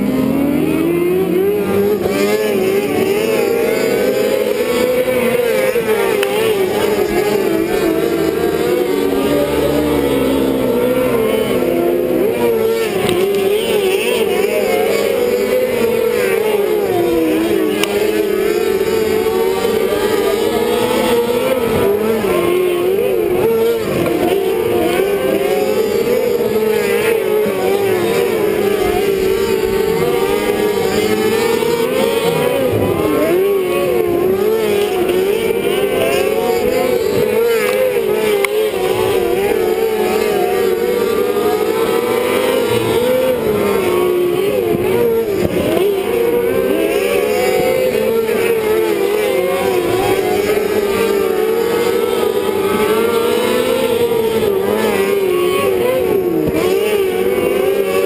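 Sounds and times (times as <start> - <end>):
kart engines racing: 0.0 - 58.0.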